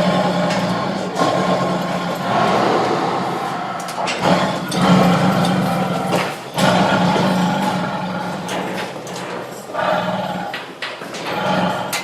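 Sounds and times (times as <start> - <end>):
lion roaring: 0.0 - 12.0.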